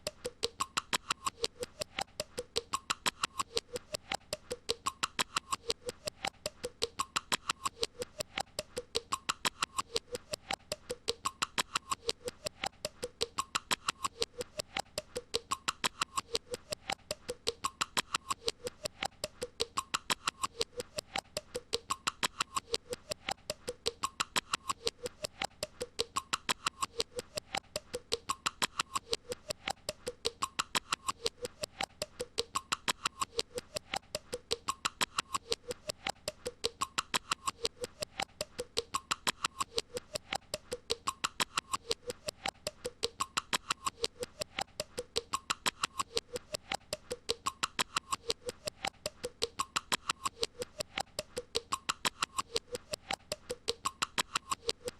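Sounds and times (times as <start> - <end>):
fast even clicking: 0.0 - 54.9.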